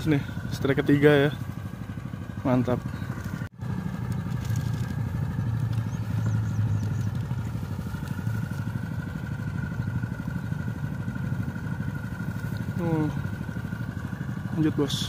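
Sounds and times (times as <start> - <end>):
machine engine chugging with whine: 0.0 - 15.0.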